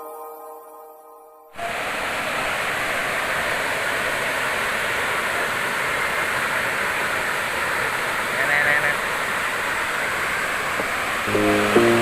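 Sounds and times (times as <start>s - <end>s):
waterfall rushing: 1.6s - 12.0s.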